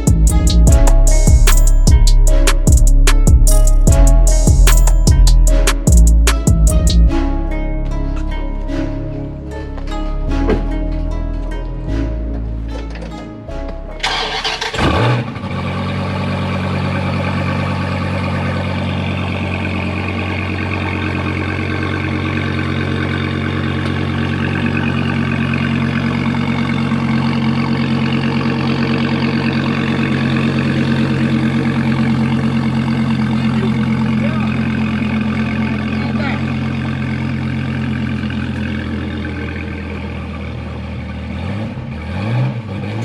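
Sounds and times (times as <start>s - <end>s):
vehicle engine starting and idling: 0.0s - 43.0s.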